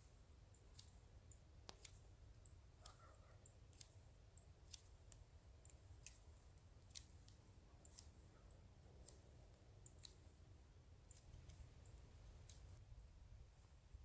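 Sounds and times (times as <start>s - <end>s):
faint sharp clicks: 0.5s - 10.4s, 11.0s - 12.8s.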